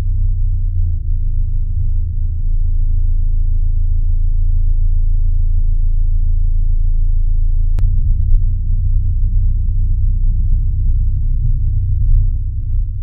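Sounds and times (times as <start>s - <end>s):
deep steady drone: 0.0s - 13.0s.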